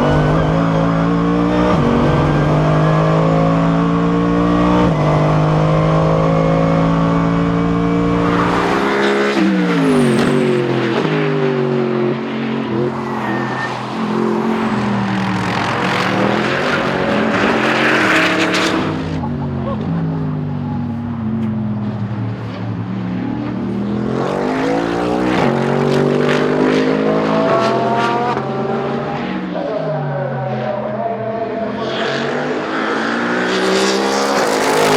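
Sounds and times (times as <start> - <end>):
car engine at high revs: 0.0 - 34.9.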